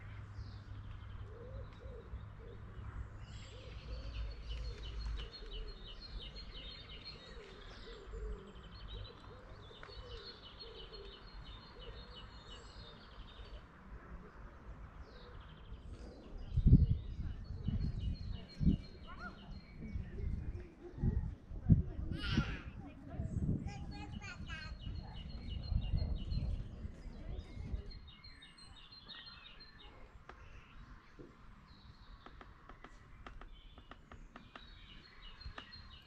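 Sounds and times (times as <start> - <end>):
small birds singing trills: 0.0 - 36.0.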